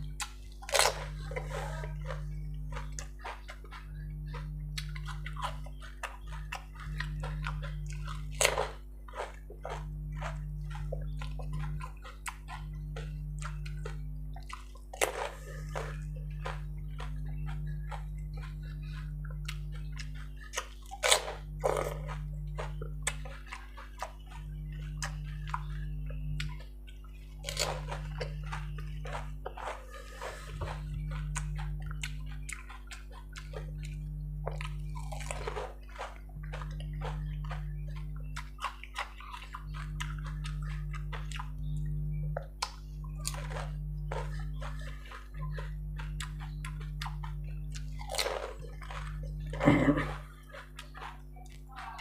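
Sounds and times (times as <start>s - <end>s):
low hum: 0.0s - 52.0s
wet chewing and slurping: 0.0s - 52.0s
crisp shells crunching in mouth: 0.2s - 41.8s, 43.0s - 51.7s.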